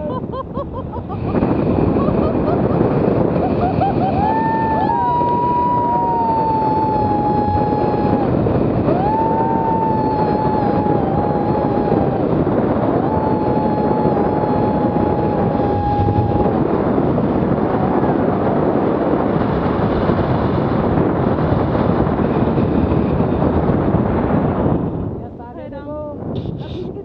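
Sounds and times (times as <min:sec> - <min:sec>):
wind rushing on microphone: 0:00.0 - 0:27.0.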